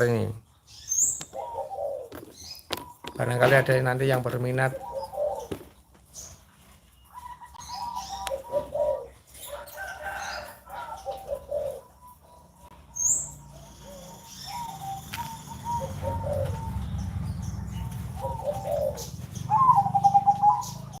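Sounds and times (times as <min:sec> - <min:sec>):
doves cooing: 0:00.0 - 0:21.0.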